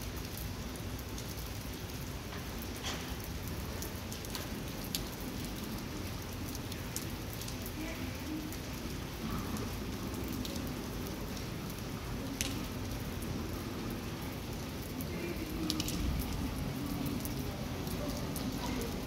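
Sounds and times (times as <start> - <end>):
rain on paved street: 0.0 - 19.0.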